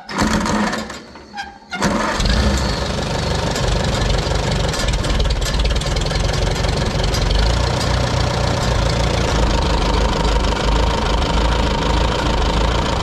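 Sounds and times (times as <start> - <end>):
starter motor cranking: 0.0 - 1.2, 1.8 - 13.0
tractor engine running: 0.0 - 13.0.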